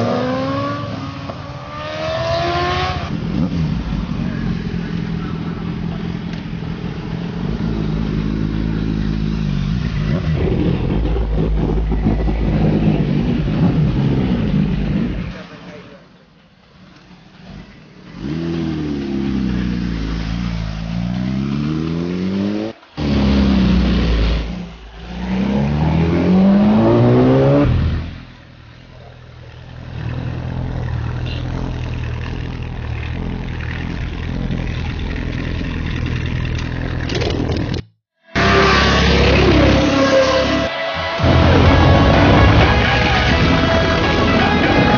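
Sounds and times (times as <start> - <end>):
superbike engines revving: 0.0 - 15.8, 17.5 - 37.4, 38.4 - 44.9.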